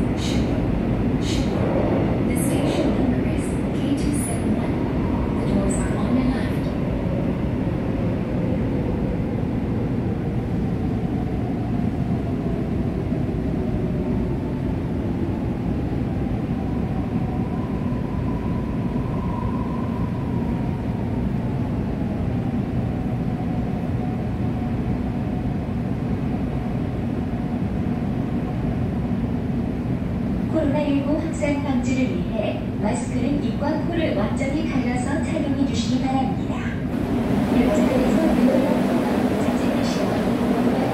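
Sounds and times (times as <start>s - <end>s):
subway wheels rumbling on track: 0.0s - 40.9s.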